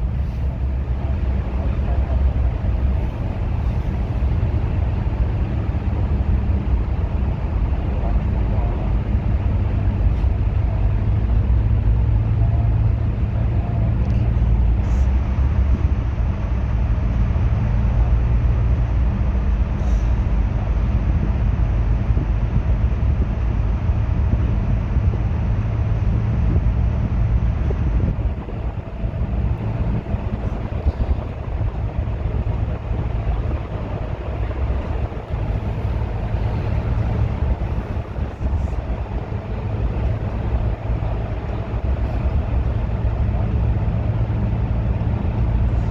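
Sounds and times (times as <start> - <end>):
bus engine running: 0.0 - 45.9
road noise: 0.0 - 45.9.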